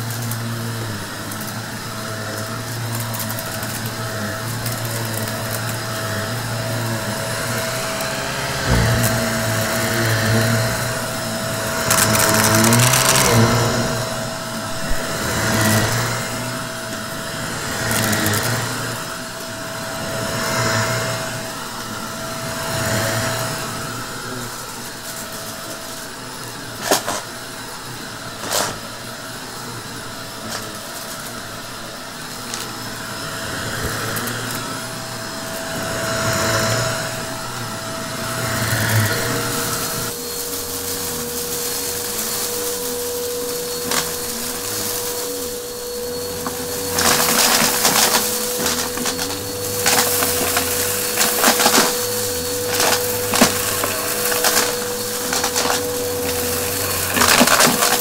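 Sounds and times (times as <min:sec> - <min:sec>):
lower-pitched vacuum hum: 0:00.0 - 0:58.0
upright vacuum cleaner humming: 0:00.0 - 0:58.0.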